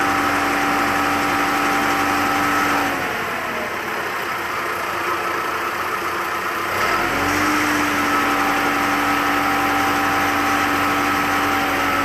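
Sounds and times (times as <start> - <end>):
aerial lift engine whining: 0.0 - 12.0.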